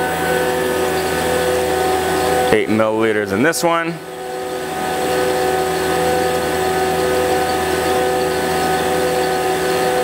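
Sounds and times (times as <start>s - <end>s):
vacuum pump whine: 0.0s - 10.0s.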